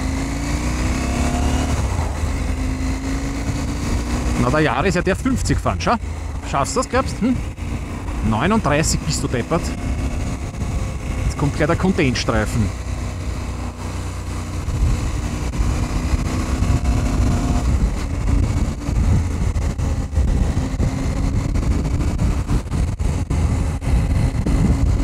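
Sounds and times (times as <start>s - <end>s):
wind rush on microphone: 0.0s - 11.9s, 12.6s - 25.0s
motorcycle engine running: 0.0s - 25.0s.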